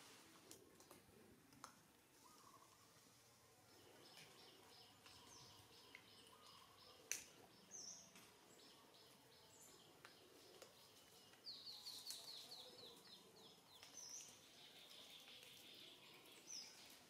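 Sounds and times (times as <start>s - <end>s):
small birds twittering: 2.1s - 17.0s.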